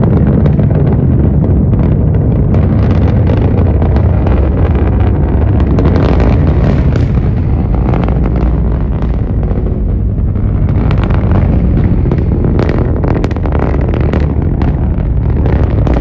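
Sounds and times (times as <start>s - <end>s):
rocket engines rumbling and crackling: 0.0s - 16.0s.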